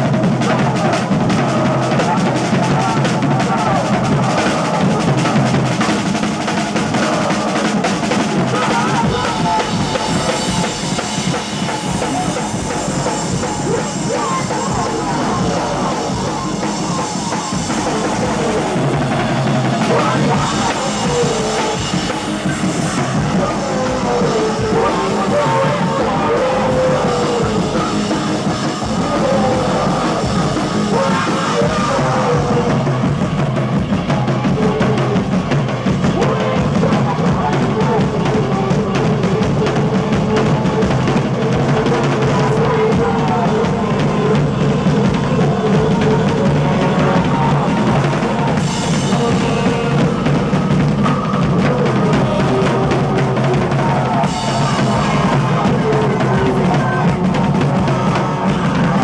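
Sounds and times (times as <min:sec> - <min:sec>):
drum kit: 0:00.0 - 0:59.0
live band music: 0:00.0 - 0:59.0.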